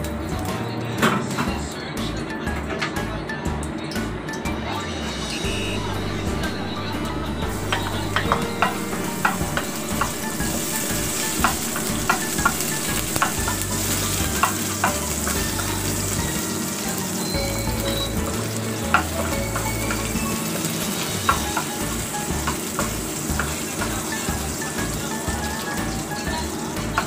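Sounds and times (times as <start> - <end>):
garlic and onion sizzling in oil: 4.9 - 27.0.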